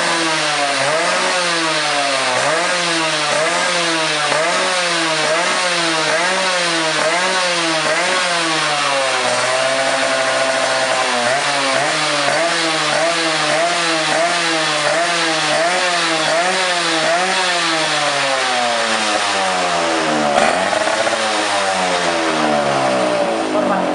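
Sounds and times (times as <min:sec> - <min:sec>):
two-stroke engine revving: 0:00.0 - 0:23.9.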